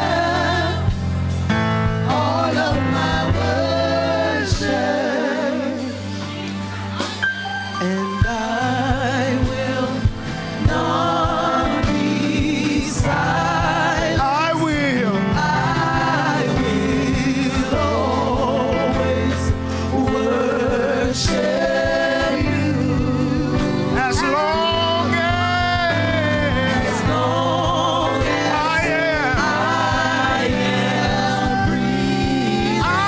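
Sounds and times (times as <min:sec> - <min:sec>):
voices singing with vibrato: 0:00.0 - 0:01.1, 0:02.0 - 0:33.0
gospel band playing: 0:00.0 - 0:33.0.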